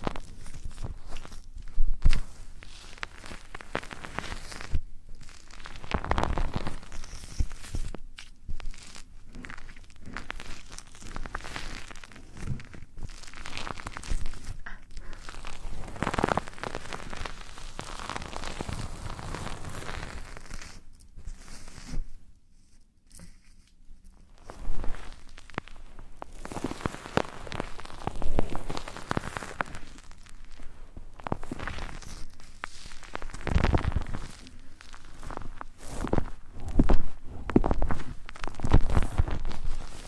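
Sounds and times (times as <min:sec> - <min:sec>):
rustling and scratching on microphone: 0:00.0 - 0:40.0.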